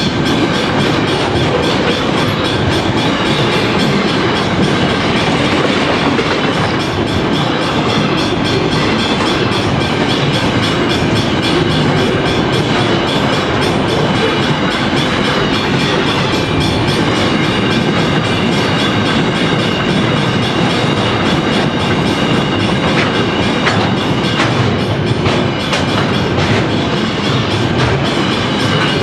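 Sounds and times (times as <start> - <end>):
train wheels rumbling on rail: 0.0 - 29.0
wheels clattering over rail joints: 0.0 - 29.0.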